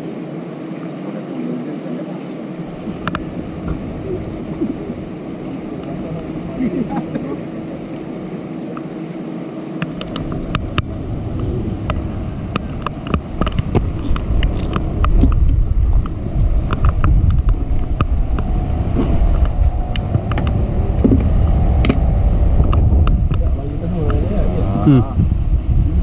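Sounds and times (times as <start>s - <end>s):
wind rumbling on microphone: 2.5s - 26.0s.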